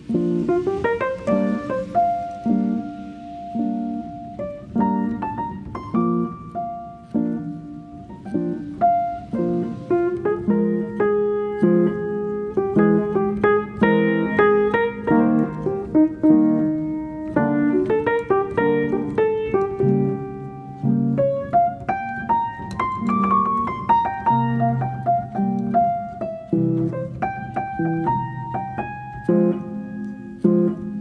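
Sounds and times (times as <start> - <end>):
piano melody: 0.0 - 31.0.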